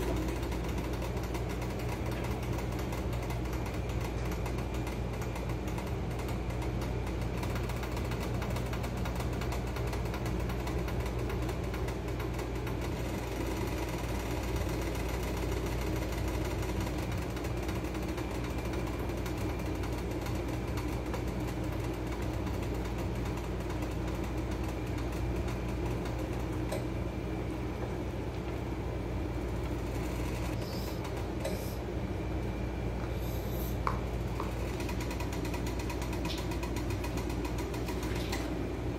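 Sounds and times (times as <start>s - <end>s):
low electric hum: 0.0s - 38.9s.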